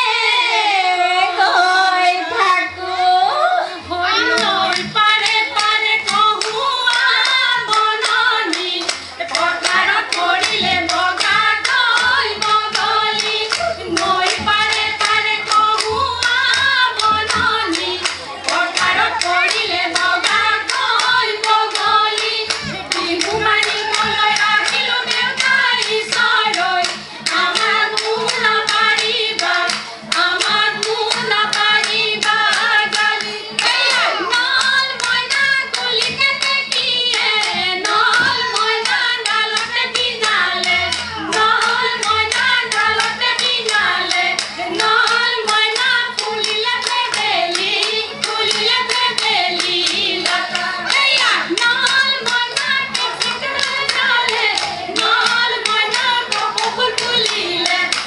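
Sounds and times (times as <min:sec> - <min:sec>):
women singing: 0:00.0 - 0:58.0
percussion beat: 0:03.8 - 0:58.0
hand claps: 0:04.1 - 0:58.0.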